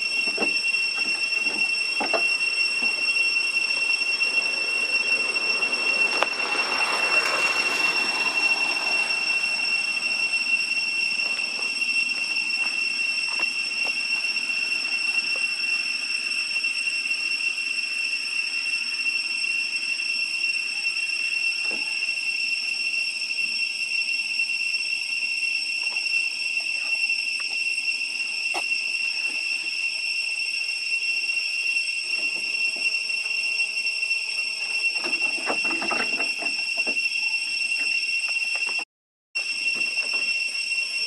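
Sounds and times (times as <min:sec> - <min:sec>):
cicadas droning: 0:00.0 - 0:38.8, 0:39.4 - 0:41.0.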